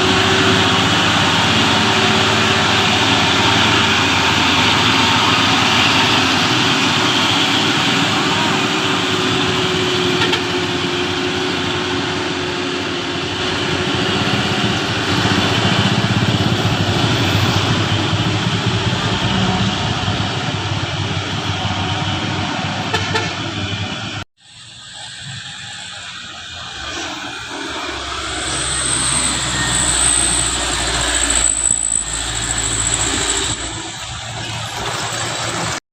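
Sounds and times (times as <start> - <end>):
diesel truck engine running: 0.0 - 35.8.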